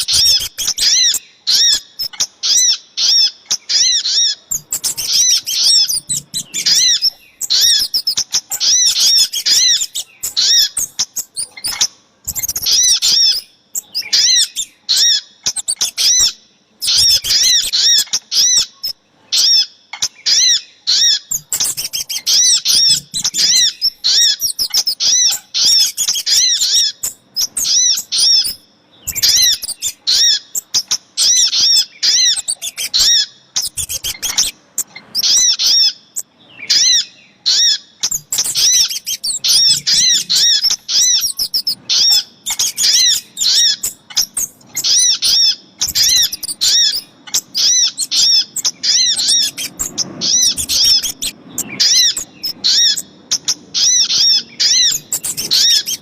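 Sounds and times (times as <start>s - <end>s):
songbirds calling high repeated notes: 0.0s - 56.0s.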